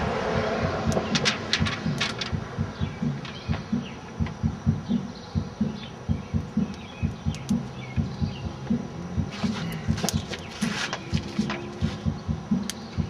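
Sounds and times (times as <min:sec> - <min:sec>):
birds chirping faintly: 0:00.0 - 0:13.0
irregular low thumping: 0:00.0 - 0:13.0.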